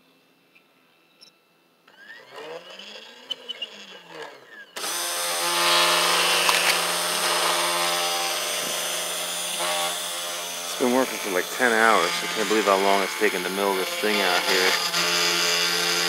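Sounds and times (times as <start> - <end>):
milling machine cutting: 1.9 - 16.0
motor whine: 1.9 - 16.0.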